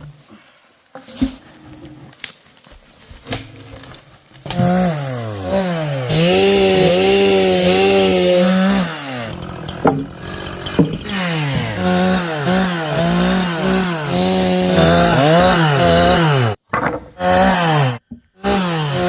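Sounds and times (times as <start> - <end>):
chainsaw revving and cutting wood: 3.6 - 19.0.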